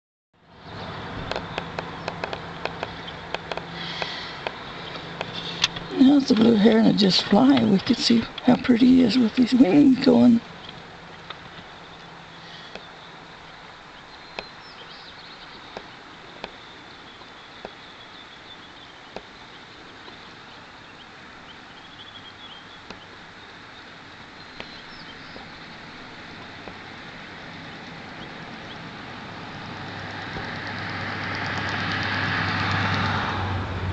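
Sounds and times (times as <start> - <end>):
passing vehicle engine and tyres: 0.4 - 33.9.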